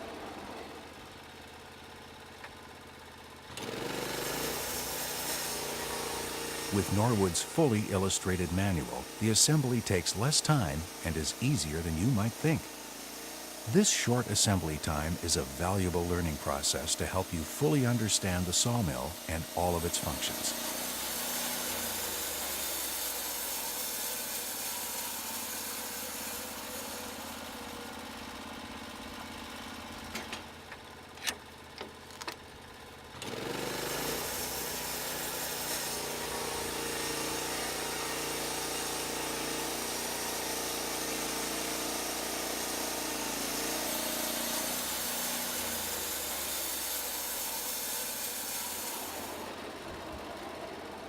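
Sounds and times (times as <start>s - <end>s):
sawmill engine running: 0.0s - 29.7s, 33.2s - 51.0s.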